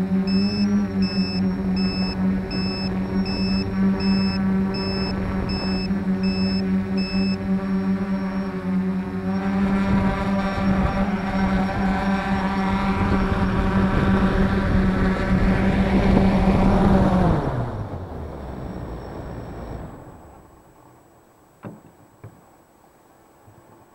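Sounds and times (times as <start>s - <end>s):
drone motors humming: 0.0s - 21.1s.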